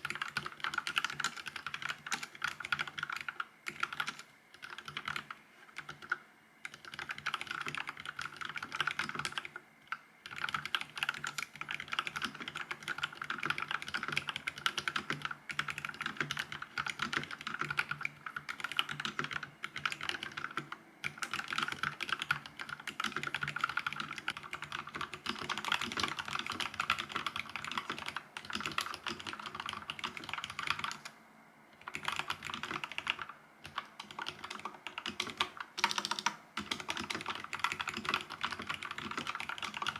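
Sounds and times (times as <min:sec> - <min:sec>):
typing on mechanical keyboard: 0:00.0 - 0:09.6, 0:10.2 - 0:31.1, 0:31.8 - 0:39.9.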